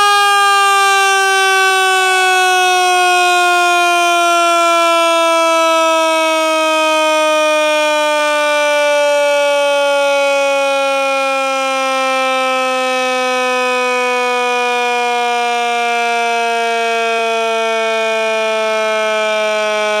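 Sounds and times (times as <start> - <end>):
mechanical siren wailing: 0.0 - 20.0.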